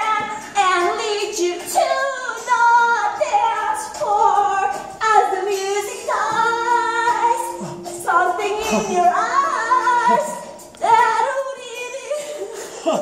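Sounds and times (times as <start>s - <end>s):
woman singing badly: 0.0s - 12.2s.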